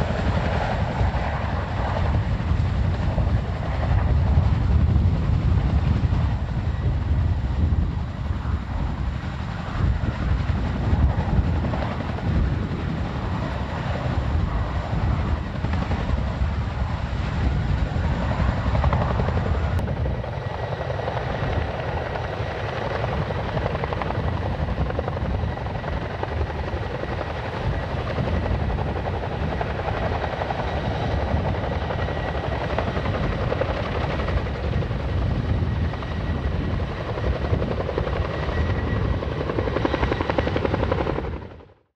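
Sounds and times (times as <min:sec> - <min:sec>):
turbine whine: 0:00.0 - 0:41.4
helicopter rotors beating: 0:00.0 - 0:41.8.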